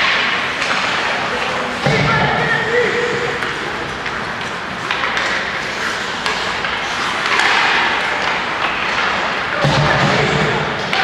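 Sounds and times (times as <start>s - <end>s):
hockey sticks clicking on puck: 0.0s - 2.1s, 2.7s - 11.0s
skating and rink noise: 0.0s - 11.0s.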